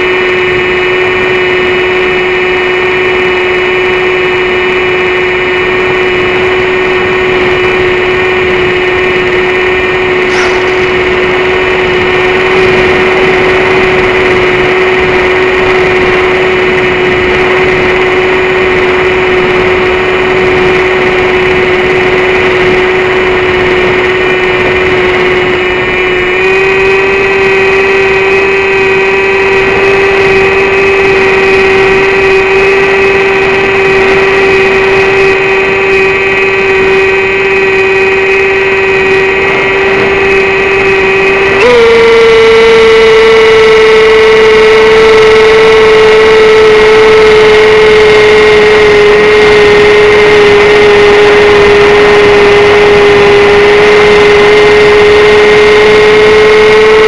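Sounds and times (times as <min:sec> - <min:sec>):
electric motor propeller whine: 0:00.0 - 0:57.0
rushing wind: 0:00.0 - 0:57.0.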